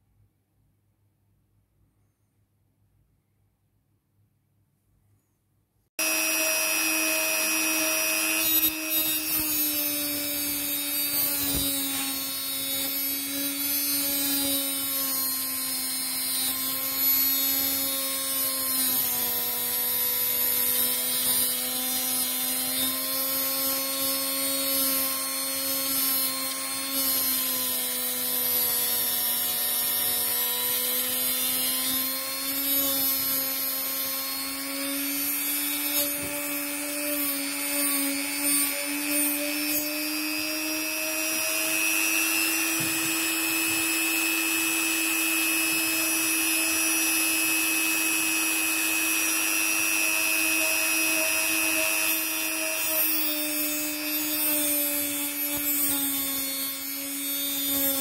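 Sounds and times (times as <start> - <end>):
rotary tool grinding metal: 6.0 - 58.0.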